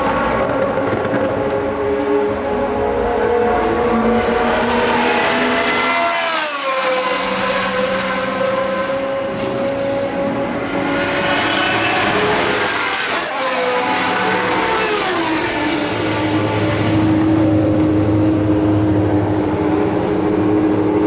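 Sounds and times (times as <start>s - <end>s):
racing car engines at high revs: 0.0s - 21.0s.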